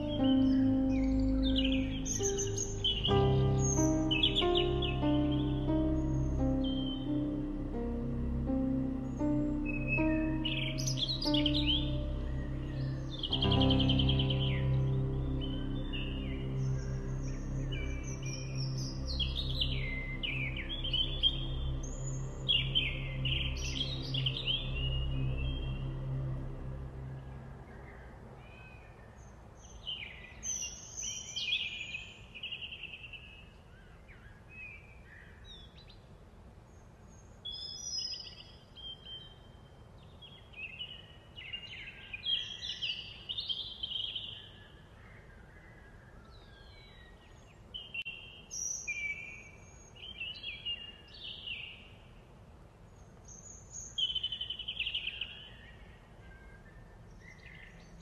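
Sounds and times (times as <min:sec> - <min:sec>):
birds chirping and warbling: 0:00.0 - 0:36.1, 0:36.7 - 0:52.1, 0:53.0 - 0:58.0
faint steady background noise: 0:00.0 - 0:58.0.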